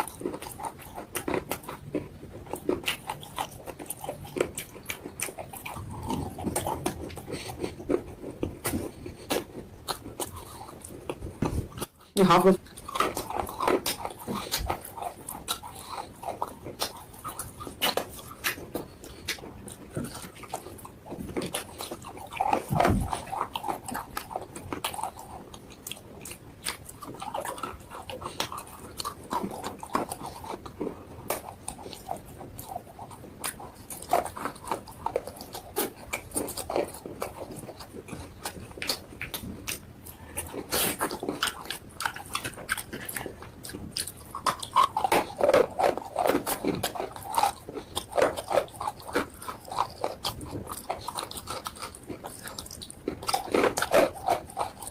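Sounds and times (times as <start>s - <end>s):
crunching and chewing chalk: 0.0s - 54.9s.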